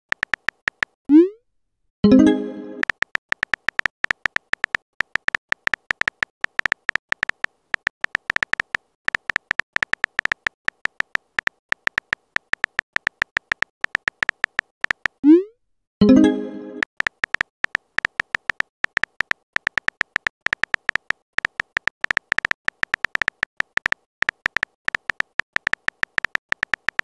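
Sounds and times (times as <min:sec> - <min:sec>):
keyboard typing ticks: 0:00.1 - 0:01.3, 0:02.1 - 0:15.4, 0:16.8 - 0:27.0.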